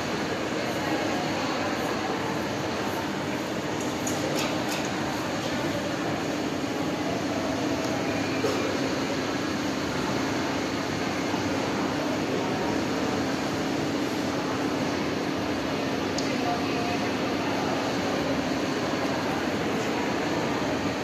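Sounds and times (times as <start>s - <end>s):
machinery and ventilation hum: 0.0s - 21.0s.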